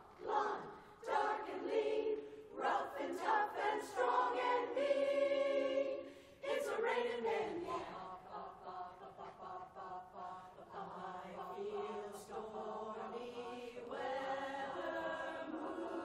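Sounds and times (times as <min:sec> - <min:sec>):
women's chorus singing a cappella: 0:00.0 - 0:16.0.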